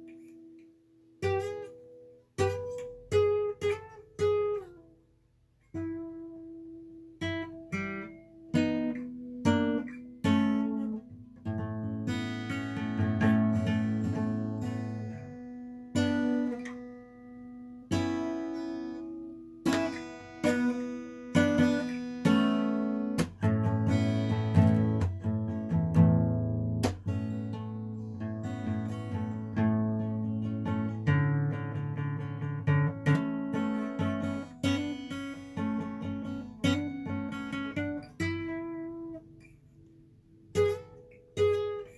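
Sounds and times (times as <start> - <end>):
acoustic guitar strumming chords: 0.0 - 5.0, 5.7 - 41.9.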